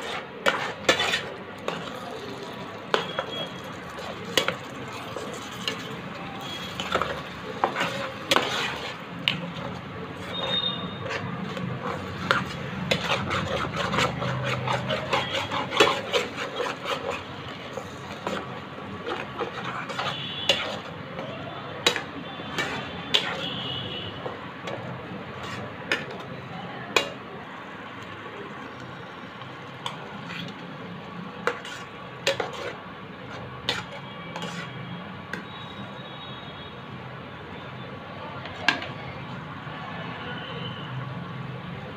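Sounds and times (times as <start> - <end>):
spoon stirring thick gravy: 0.0 - 36.4.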